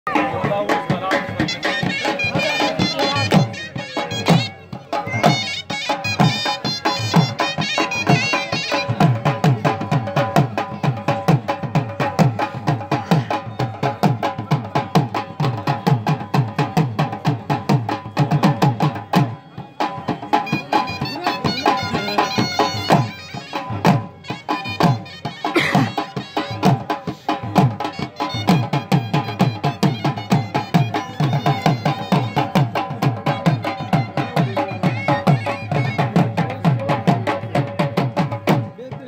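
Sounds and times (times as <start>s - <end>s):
held melody line: 0.1s - 16.4s, 17.9s - 37.7s
drums beaten with sticks: 0.1s - 39.0s.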